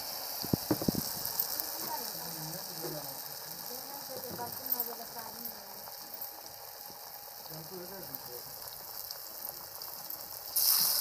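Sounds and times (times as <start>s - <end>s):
oil sizzling with crackling pops: 0.0s - 11.0s.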